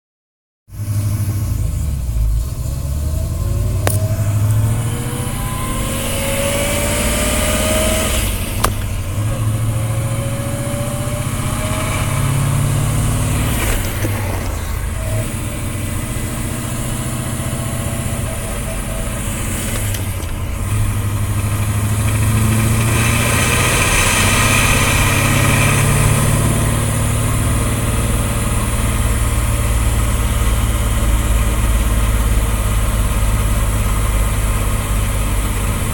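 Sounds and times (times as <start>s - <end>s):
car engine running: 0.7s - 35.9s
rising whines: 0.8s - 34.4s
transmission grinding noise: 0.8s - 35.9s.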